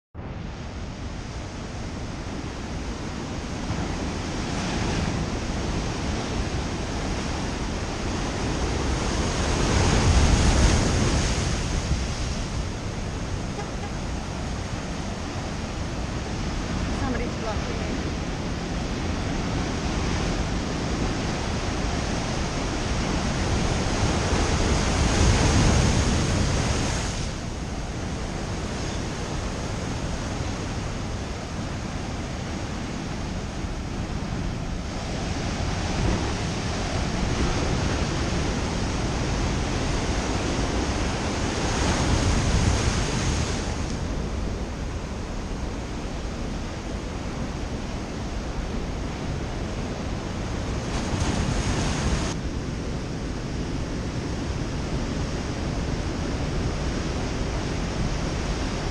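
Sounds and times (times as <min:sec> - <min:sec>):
wind on microphone: 0:00.2 - 0:58.9
ocean surf breaking on beach: 0:00.3 - 0:58.9.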